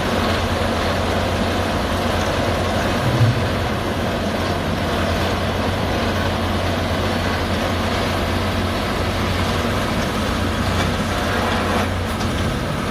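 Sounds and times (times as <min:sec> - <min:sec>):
heavy diesel engine humming: 0:00.0 - 0:12.9.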